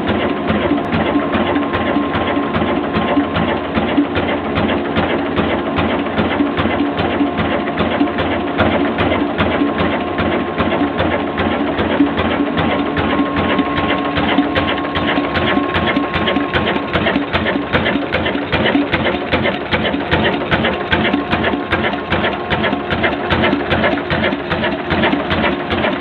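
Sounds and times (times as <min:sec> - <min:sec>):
diesel engine clattering: 0:00.0 - 0:26.0.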